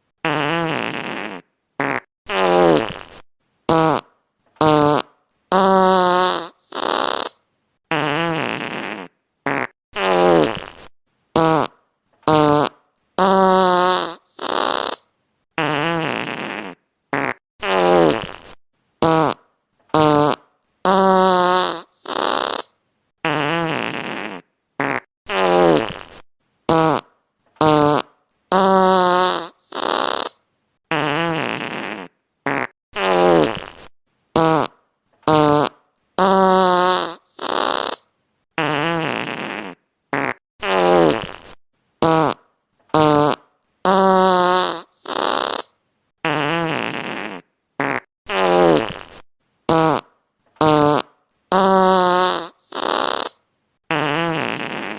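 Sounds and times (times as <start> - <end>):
fart sound effects: 0.2 - 54.9.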